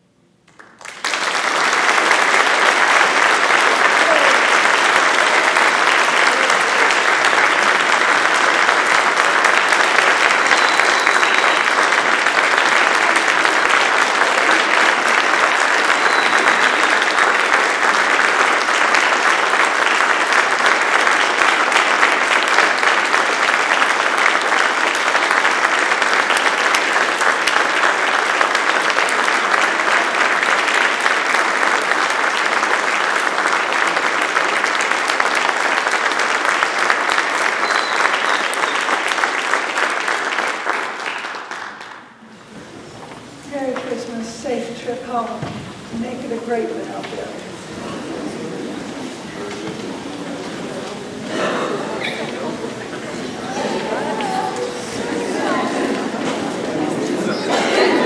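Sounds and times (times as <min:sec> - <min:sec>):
audience applauding: 0:00.4 - 0:44.5, 0:46.0 - 0:58.0.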